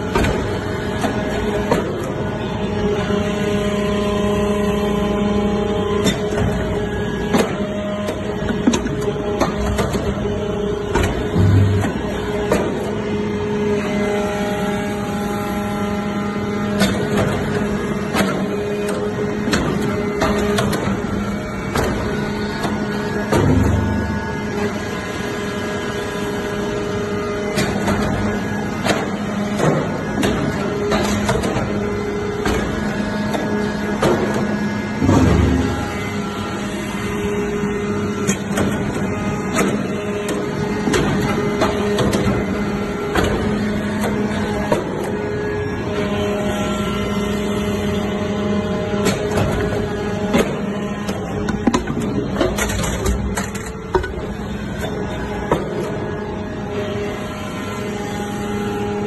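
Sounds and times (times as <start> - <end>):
baler machine hum: 0.0 - 59.0.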